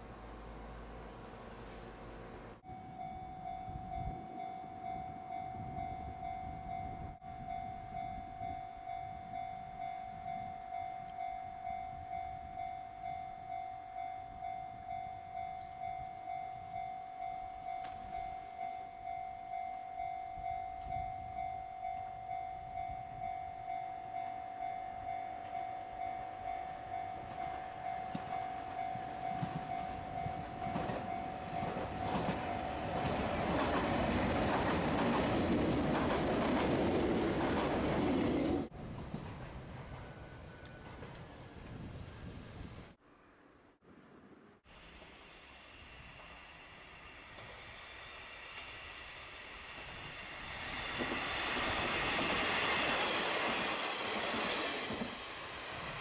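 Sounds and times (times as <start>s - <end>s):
train rumbling: 0.0s - 23.8s, 24.6s - 43.0s, 44.9s - 56.0s.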